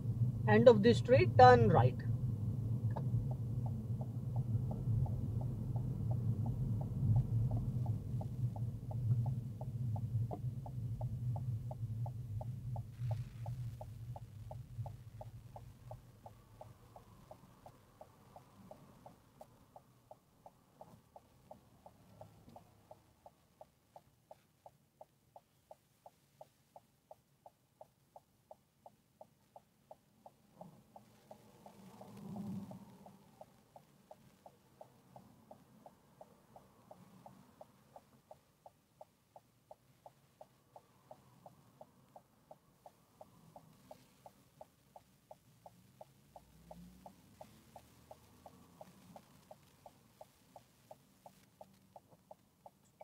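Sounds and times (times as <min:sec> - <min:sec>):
car rolling on road: 0:00.0 - 0:26.6, 0:28.9 - 0:53.0
turn signal ticking: 0:00.0 - 0:53.0.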